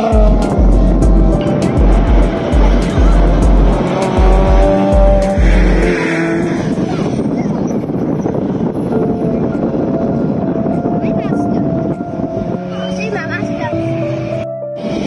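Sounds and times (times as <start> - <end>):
race car engines at speed: 0.0 - 10.7, 12.0 - 15.0
wind buffeting microphone: 0.0 - 15.0.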